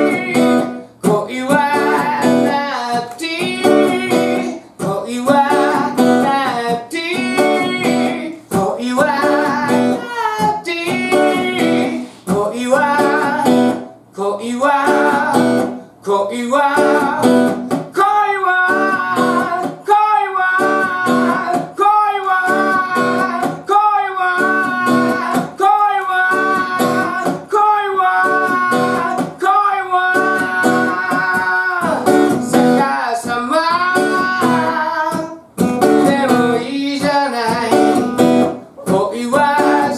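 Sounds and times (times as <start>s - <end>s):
man singing: 0.0s - 39.9s
strummed acoustic guitar: 0.0s - 39.9s.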